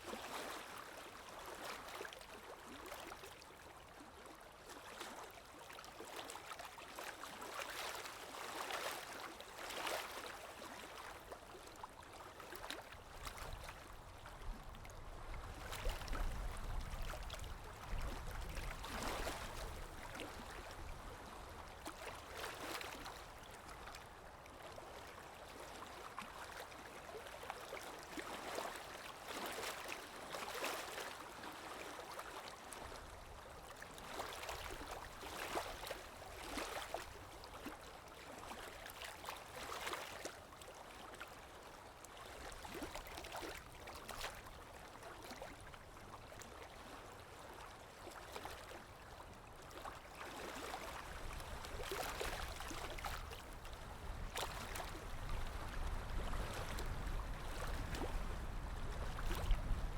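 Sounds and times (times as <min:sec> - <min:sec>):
small waves splashing: 0:00.0 - 0:59.9.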